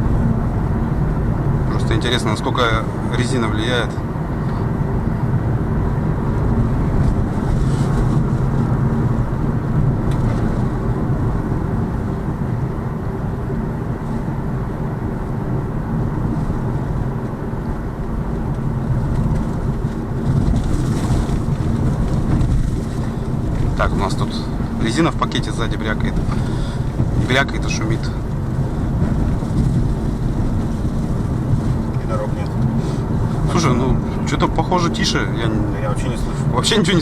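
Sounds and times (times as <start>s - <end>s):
road and tyre noise in car: 0.0s - 37.0s.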